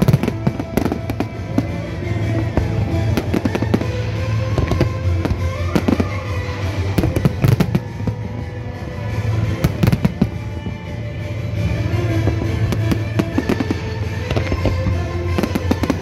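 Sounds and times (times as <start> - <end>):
firework crackling: 0.0 - 16.0
fireworks bursting with bangs: 0.0 - 16.0
music: 0.0 - 16.0.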